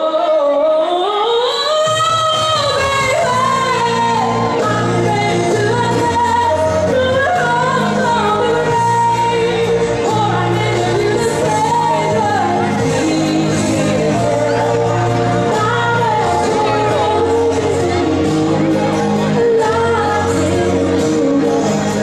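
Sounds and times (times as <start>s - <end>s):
amplified accompaniment with bass: 0.0s - 22.0s
woman singing into microphone: 0.0s - 22.0s.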